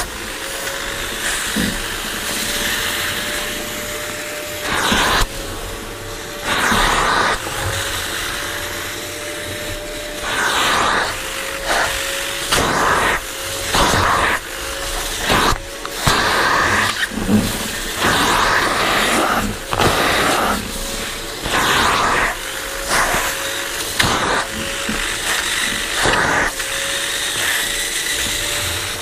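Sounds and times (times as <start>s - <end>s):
suction motor whine: 0.0s - 29.0s.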